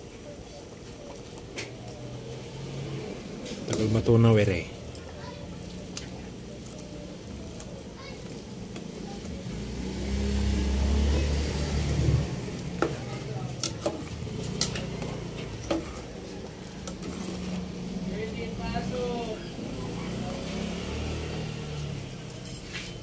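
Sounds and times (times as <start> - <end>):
broth boiling in pot: 0.0 - 23.0.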